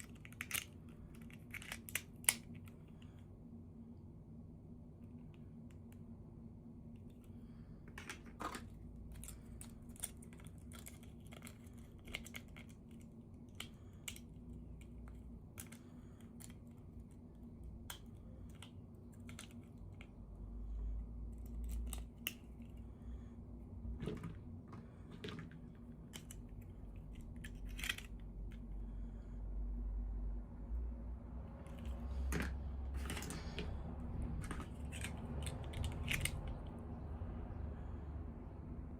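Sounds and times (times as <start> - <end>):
faint low hum: 0.0 - 38.9.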